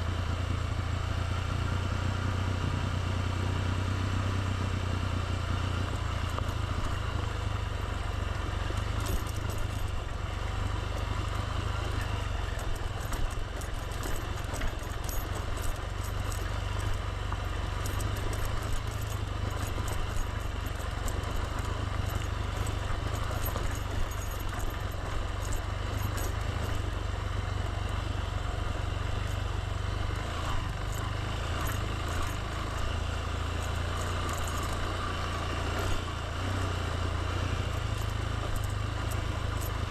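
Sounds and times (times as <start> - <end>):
motorbike engine drone: 0.0 - 39.9
road and wind noise: 0.0 - 39.9
light rattling clicks: 5.7 - 39.9.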